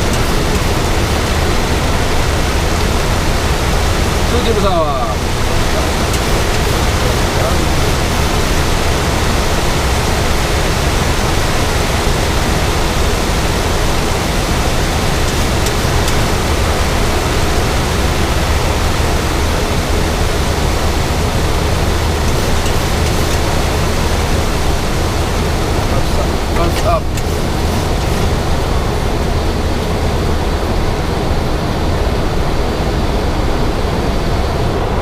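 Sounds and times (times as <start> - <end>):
airplane cockpit rushing noise: 0.0 - 35.0.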